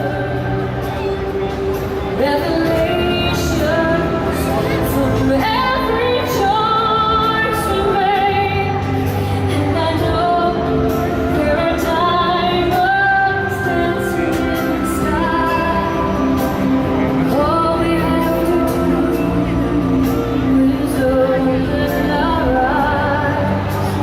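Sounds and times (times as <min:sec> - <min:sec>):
show music accompaniment: 0:00.0 - 0:24.0
woman singing with vibrato: 0:02.2 - 0:24.0.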